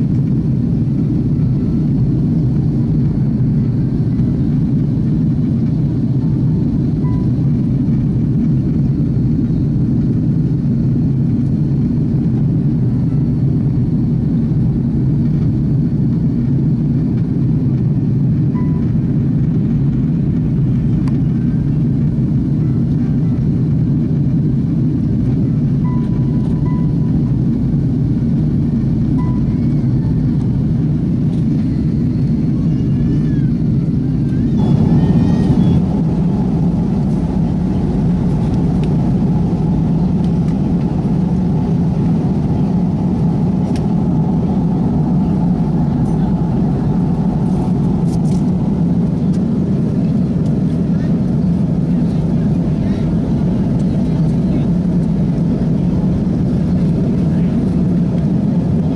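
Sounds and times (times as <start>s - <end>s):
jet airliner rumble: 0.0s - 58.9s.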